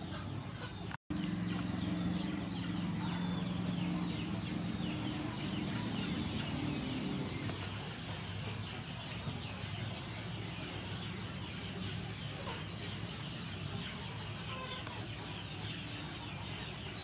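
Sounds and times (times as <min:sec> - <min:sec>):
chickens: 0:00.0 - 0:17.0
steady low hum: 0:00.0 - 0:17.0.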